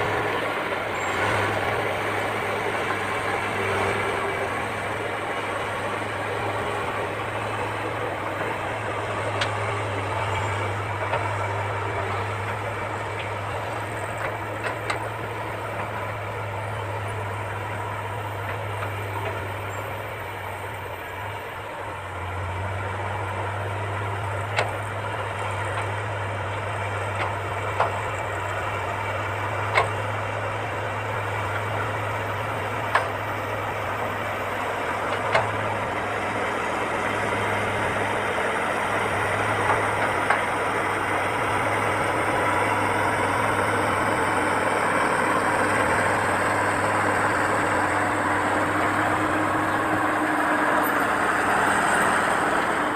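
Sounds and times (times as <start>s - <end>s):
diesel engine humming: 0.0s - 52.9s.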